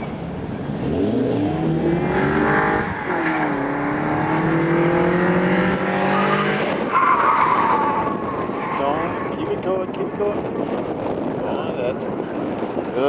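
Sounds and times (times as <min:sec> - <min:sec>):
car engine revving: 0:00.5 - 0:11.4.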